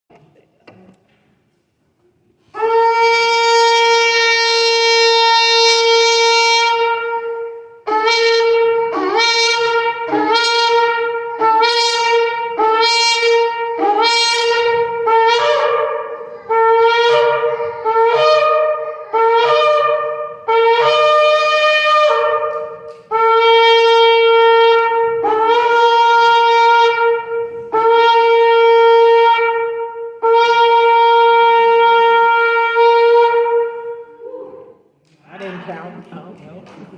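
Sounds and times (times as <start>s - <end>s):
shofar blasts: 2.4s - 34.9s.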